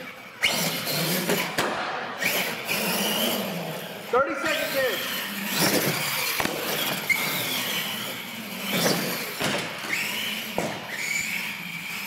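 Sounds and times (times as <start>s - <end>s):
toy truck motor whining: 0.0s - 1.6s, 2.2s - 12.0s.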